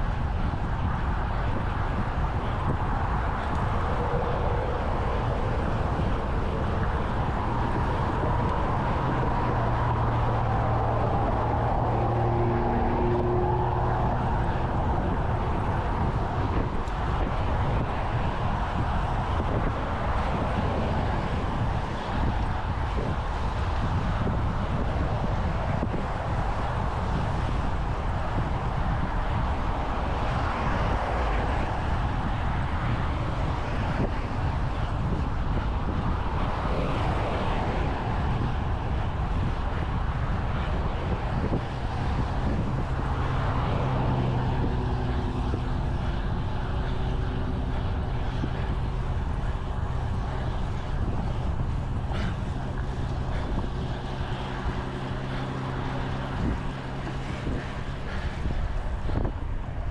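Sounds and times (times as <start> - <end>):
passing traffic: 0.0 - 59.9
vehicle engine hum: 0.0 - 59.9
wind rushing over microphone: 0.0 - 59.9.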